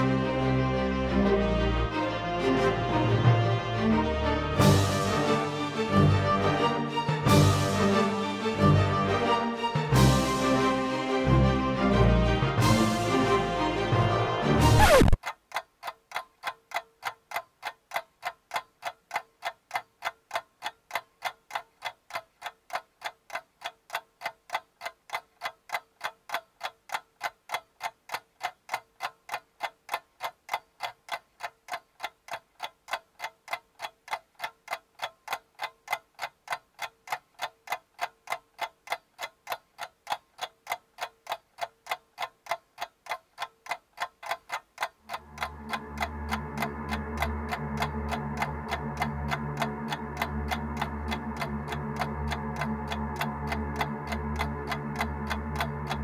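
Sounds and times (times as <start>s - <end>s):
clock ticking: 1.2s - 56.0s.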